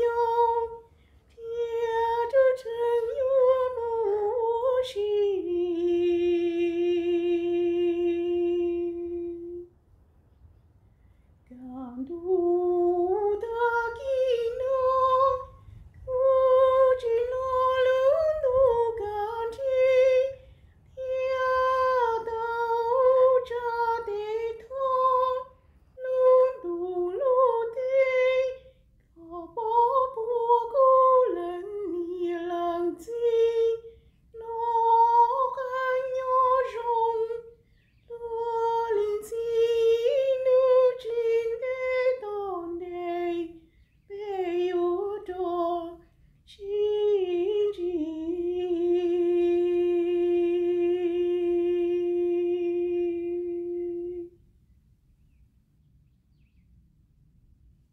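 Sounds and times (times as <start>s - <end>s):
woman singing unaccompanied: 0.0s - 9.7s, 11.4s - 54.4s.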